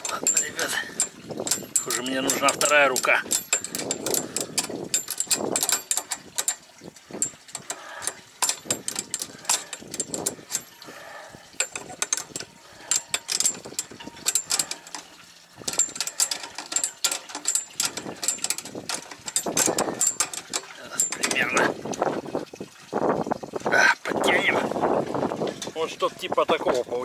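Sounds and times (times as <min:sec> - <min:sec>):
metallic clicks and clanks: 0:00.0 - 0:22.3.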